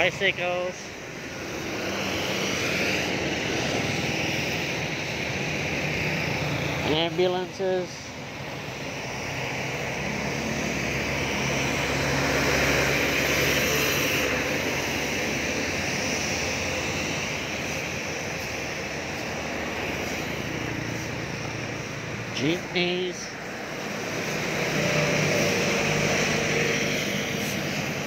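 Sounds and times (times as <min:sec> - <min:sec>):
heavy vehicle passing: 0:00.0 - 0:28.0
tyres hissing on wet road: 0:00.0 - 0:28.0
vehicle engine drone: 0:00.0 - 0:28.0.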